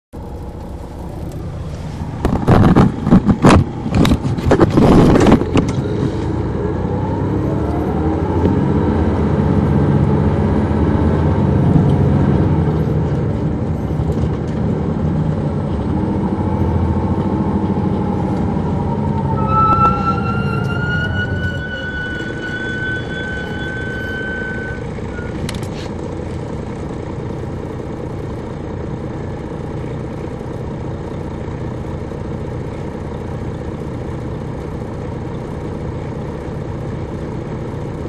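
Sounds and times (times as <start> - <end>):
bus diesel engine: 0.1 - 38.0.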